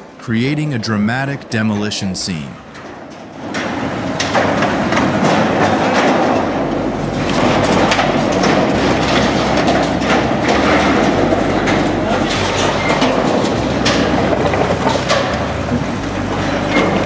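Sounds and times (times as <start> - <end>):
demolition machine din: 0.0 - 17.0
metal clanking and rattling: 2.7 - 17.0.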